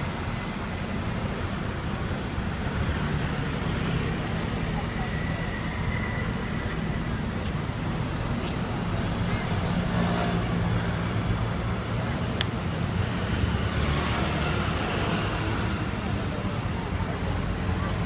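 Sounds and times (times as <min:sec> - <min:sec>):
traffic engines rumbling: 0:00.0 - 0:18.0.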